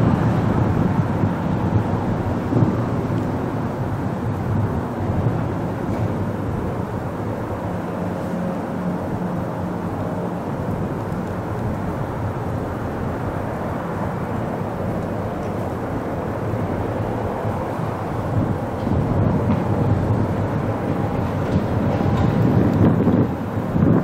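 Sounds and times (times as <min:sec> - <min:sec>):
diesel locomotive rumbling: 0:00.0 - 0:24.0.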